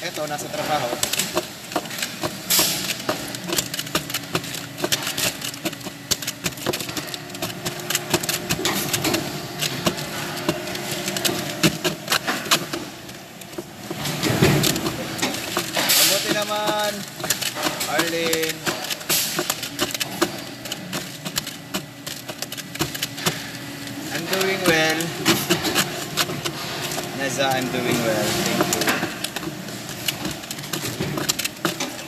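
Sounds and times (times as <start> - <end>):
clicks and clatters of parts: 0.0 - 32.0
machinery humming: 0.0 - 32.0.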